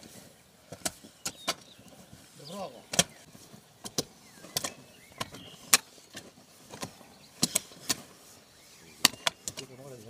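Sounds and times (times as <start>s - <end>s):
hoes striking soil: 0.7s - 8.2s, 8.9s - 10.0s.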